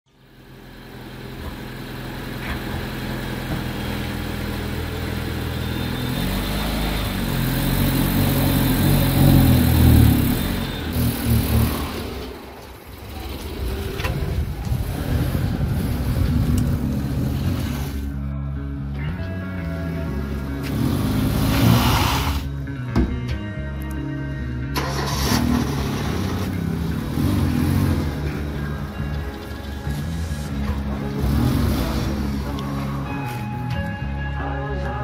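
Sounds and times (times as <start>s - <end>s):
car engine revving: 0.9s - 18.2s, 20.1s - 22.6s, 24.8s - 33.2s.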